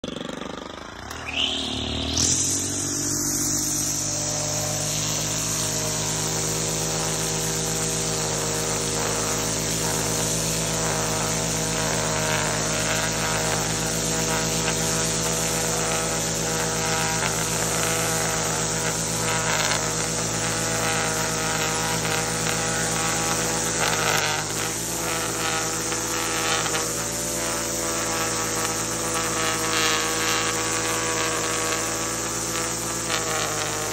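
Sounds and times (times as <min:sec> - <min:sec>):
string trimmer cutting grass: 0:00.0 - 0:33.9.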